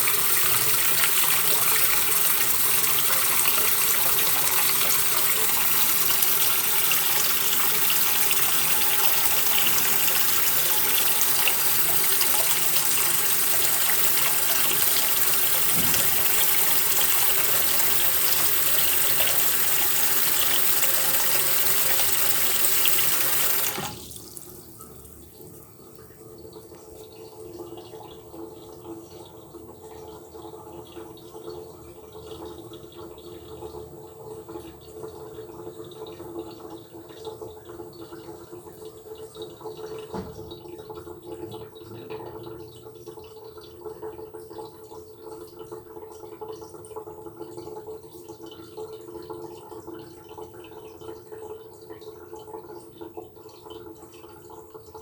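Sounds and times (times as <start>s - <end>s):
faucet running into basin: 0.0s - 55.0s.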